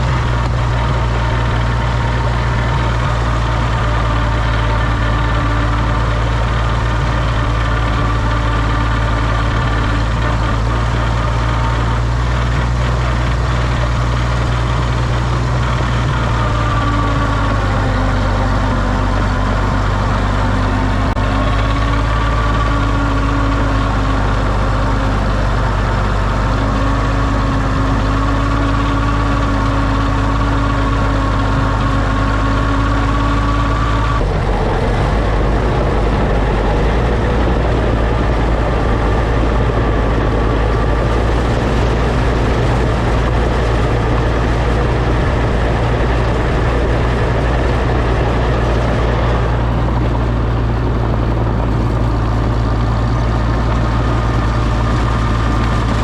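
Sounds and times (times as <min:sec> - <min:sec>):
crawler tractor engine running: 0:00.0 - 0:56.0.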